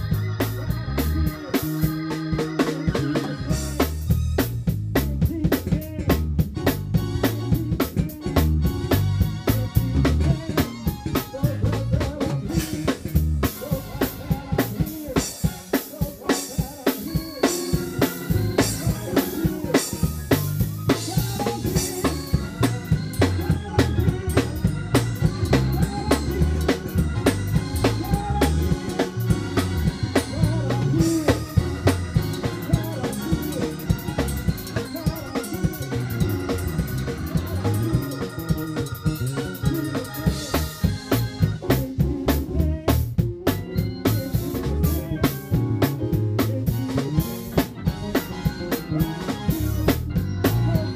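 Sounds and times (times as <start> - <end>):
drum kit fills: 0.0 - 50.9
electric bass: 0.0 - 50.9
keyboard chords: 0.0 - 50.9
organ chords: 0.0 - 50.9.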